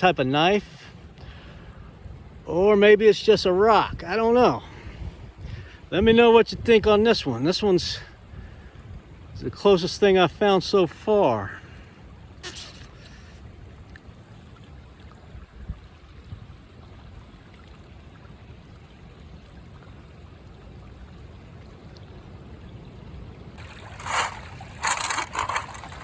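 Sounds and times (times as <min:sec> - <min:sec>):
creek water over rocks: 0:00.0 - 0:26.0.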